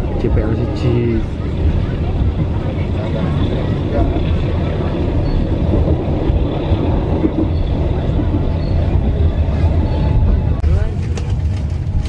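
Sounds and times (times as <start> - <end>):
train carriage rumbling on track: 0.0 - 12.0.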